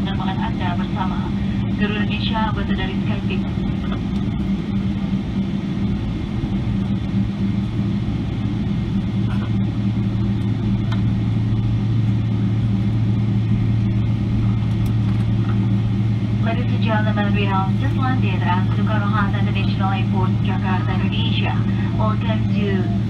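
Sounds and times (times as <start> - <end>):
aircraft cabin engine drone: 0.0 - 23.0.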